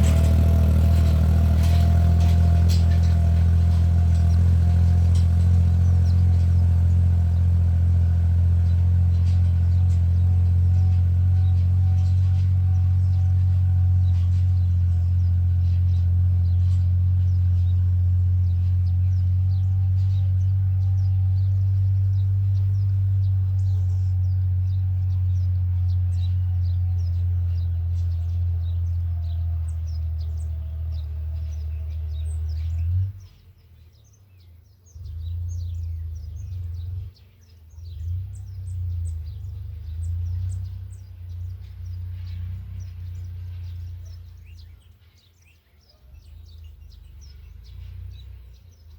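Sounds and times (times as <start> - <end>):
birds chirping: 0.0 - 48.9
tractor engine running under load: 0.0 - 48.9.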